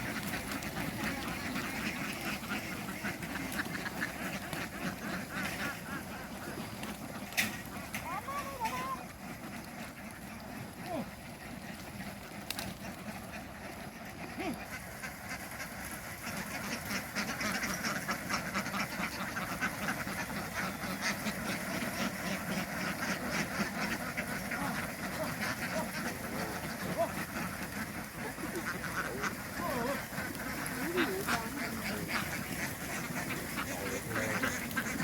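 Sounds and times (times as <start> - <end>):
ducks quacking: 0.0 - 35.0.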